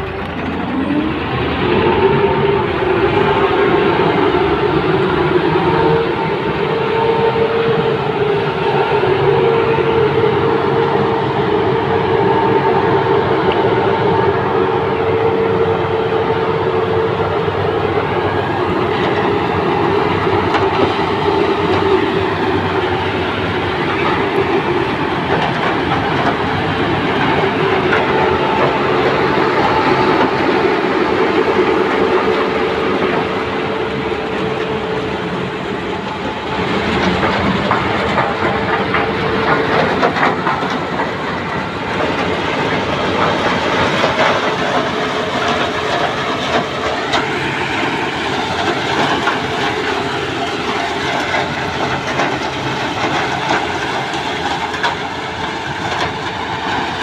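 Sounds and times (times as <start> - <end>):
harvester engine drone: 0.0 - 57.0.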